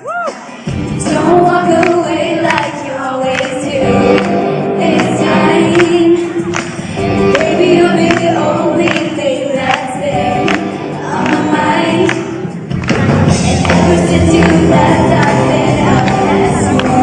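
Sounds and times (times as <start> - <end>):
woman singing: 0.3 - 12.2, 13.6 - 17.0
band playing pop song: 0.3 - 17.0.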